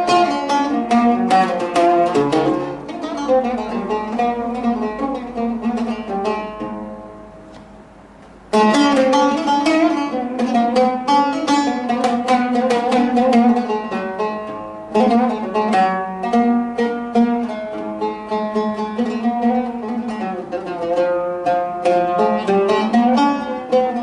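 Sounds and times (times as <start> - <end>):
oud plucked with a plectrum: 0.0 - 24.0.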